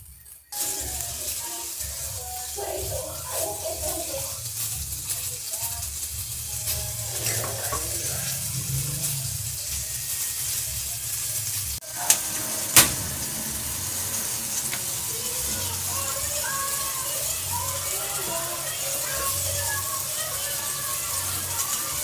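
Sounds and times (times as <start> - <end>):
syrup pot hissing on gas burner: 0.0 - 22.0.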